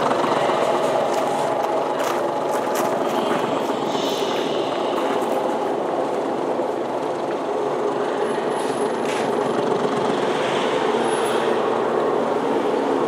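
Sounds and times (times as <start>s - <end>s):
electric cello drone: 0.0s - 13.0s.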